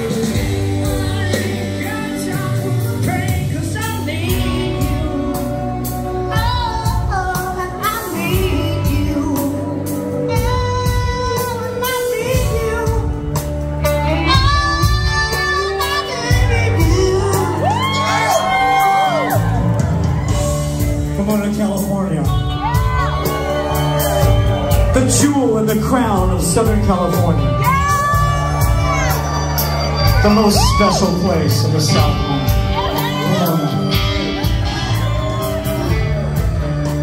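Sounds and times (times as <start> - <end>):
live ska-punk band playing: 0.0 - 37.0.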